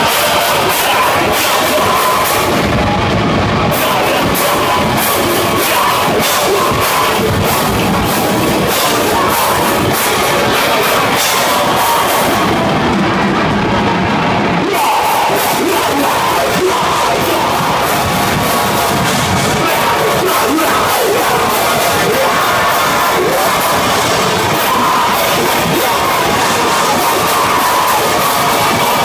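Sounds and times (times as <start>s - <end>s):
distorted electric guitars: 0.0s - 29.0s
drum kit: 0.0s - 29.0s.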